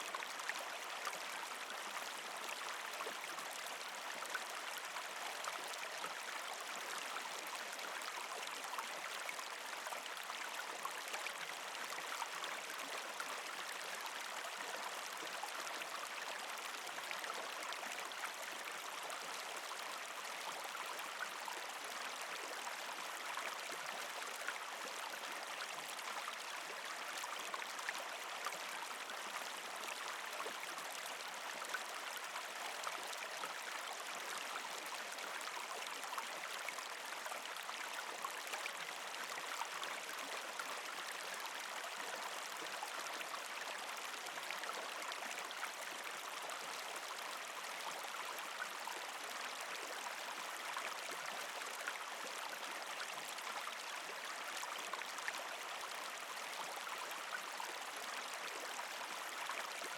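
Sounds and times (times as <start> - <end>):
creek flowing over rocks: 0.0 - 59.9.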